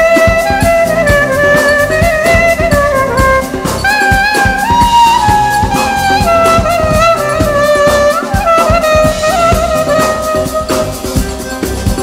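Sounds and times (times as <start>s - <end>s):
band with steady beat: 0.0s - 12.0s
clarinet melody: 0.0s - 12.0s.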